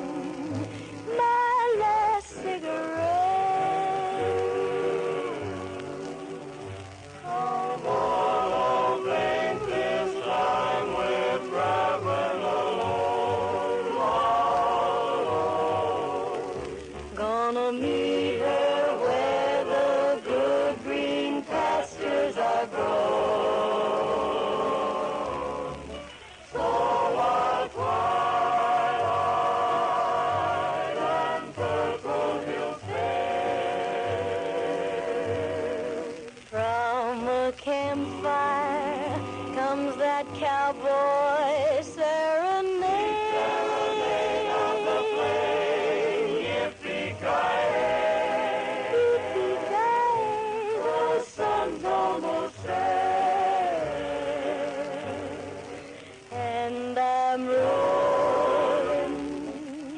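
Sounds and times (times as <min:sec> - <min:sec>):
vocal group singing chords: 0:00.0 - 0:59.9.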